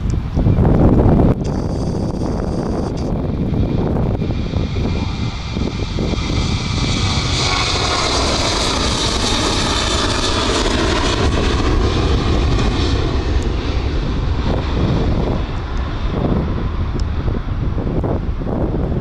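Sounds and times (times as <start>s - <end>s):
airliner engines passing by: 0.0s - 19.0s
wind rumbling on microphone: 0.0s - 19.0s.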